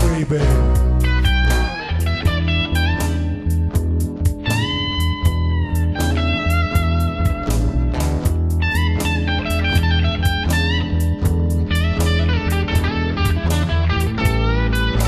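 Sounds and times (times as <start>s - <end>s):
bass and drums: 0.0s - 15.0s
electric guitar with bends: 0.0s - 15.0s.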